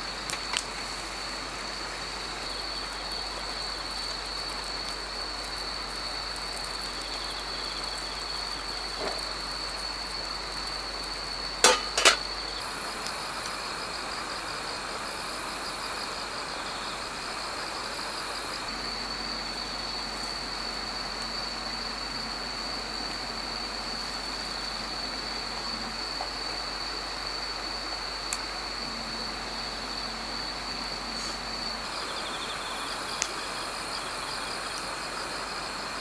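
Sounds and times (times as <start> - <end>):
crickets trilling: 0.0 - 36.0
insect chirping in quick pulses: 6.1 - 36.0.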